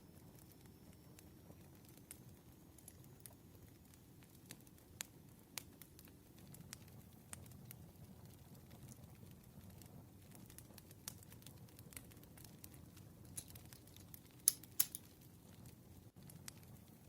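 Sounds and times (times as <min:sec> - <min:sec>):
campfire crackling: 0:00.1 - 0:17.0.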